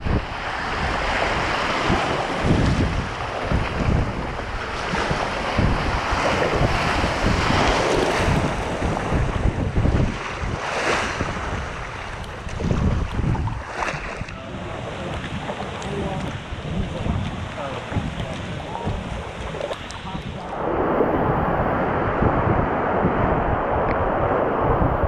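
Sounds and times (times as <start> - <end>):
flooded river rushing: 0.0 - 25.0
wind buffeting microphone: 0.0 - 25.0.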